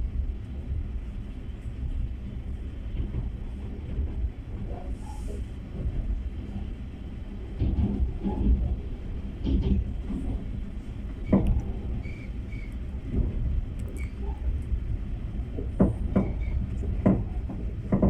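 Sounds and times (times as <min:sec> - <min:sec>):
passenger train rumbling: 0:00.0 - 0:18.0.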